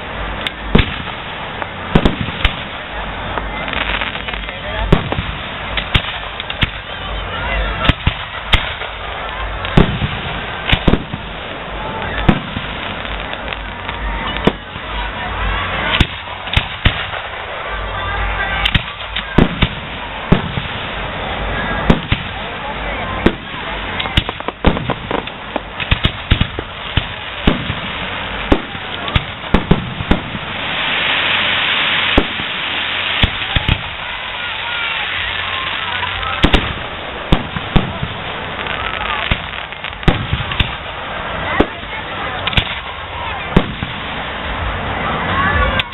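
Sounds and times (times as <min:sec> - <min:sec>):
firework shells bursting: 0:00.0 - 0:07.0, 0:07.8 - 0:14.7, 0:15.8 - 0:17.6, 0:18.6 - 0:21.0, 0:21.8 - 0:22.4, 0:23.2 - 0:41.0, 0:41.6 - 0:44.3
steady wash of noise: 0:00.0 - 0:45.9.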